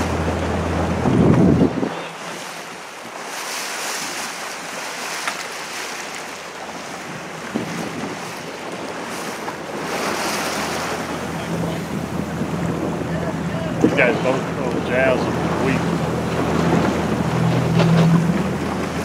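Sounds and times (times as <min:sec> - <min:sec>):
wind buffeting microphone: 0:00.0 - 0:03.2, 0:06.8 - 0:19.0
waves splashing against boat hull: 0:00.0 - 0:19.0.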